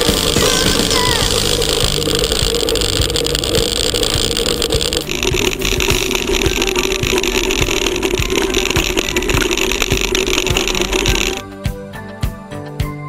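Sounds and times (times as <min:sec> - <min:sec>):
bike rattles and knocks: 0:00.0 - 0:11.4
mountain bike rolling on dirt: 0:00.0 - 0:11.4.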